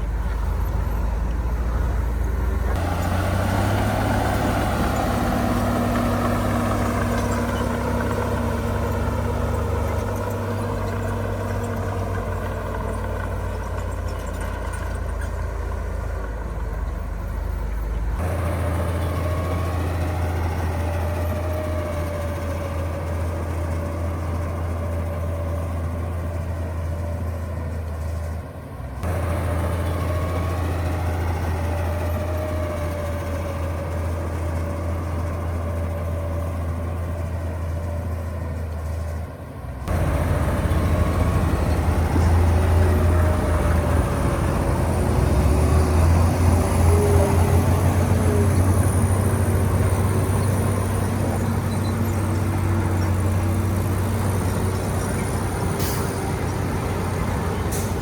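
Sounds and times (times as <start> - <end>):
heavy machinery diesel engines droning: 0.0 - 58.0.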